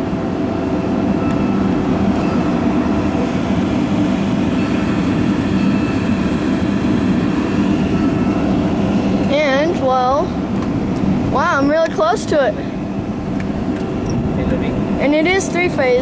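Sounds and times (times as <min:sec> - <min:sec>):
hydraulics running: 0:00.0 - 0:16.0
truck engine running: 0:00.0 - 0:16.0.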